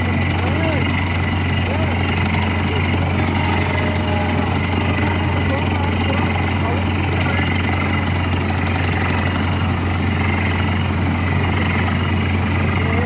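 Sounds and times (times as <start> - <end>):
drilling rig engine drone: 0.0 - 13.0.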